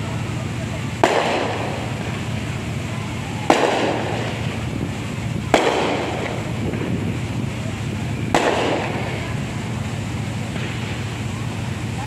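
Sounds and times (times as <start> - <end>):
fireworks bangs: 0.0 - 12.0
steady background noise: 0.0 - 12.0.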